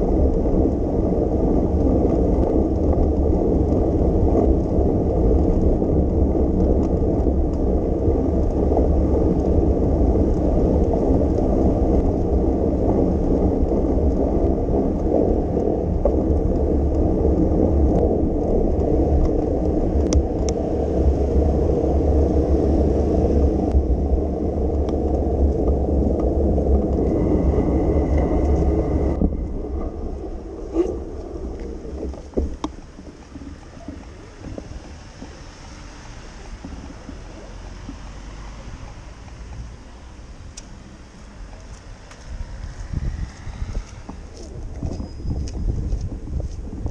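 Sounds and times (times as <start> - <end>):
bicycle tyres on wet road: 0.0 - 46.9
wet street noise: 0.0 - 46.9
wind on microphone: 0.0 - 46.9.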